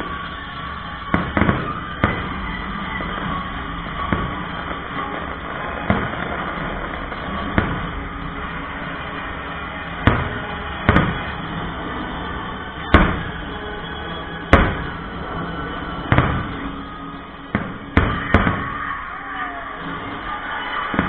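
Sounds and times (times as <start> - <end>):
fireworks bursting with bangs: 0.0 - 21.0.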